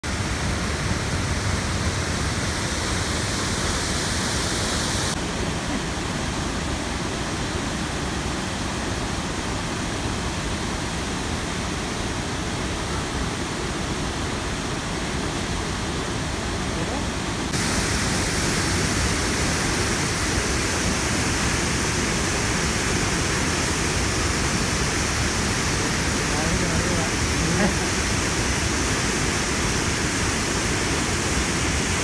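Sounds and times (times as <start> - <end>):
rushing falling water: 0.0 - 32.0.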